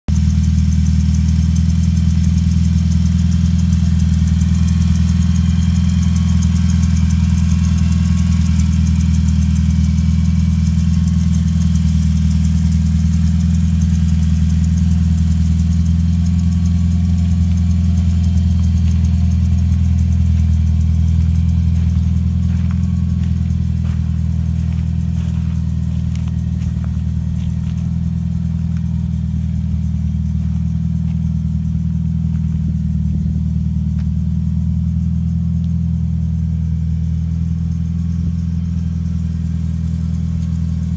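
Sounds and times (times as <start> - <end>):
car engine idling: 0.1 - 40.9.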